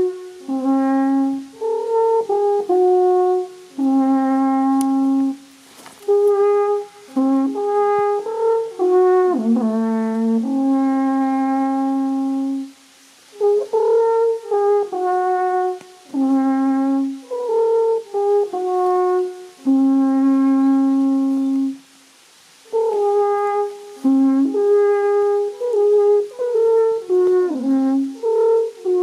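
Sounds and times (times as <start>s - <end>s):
alphorn melody: 0.0s - 21.9s, 22.7s - 29.0s.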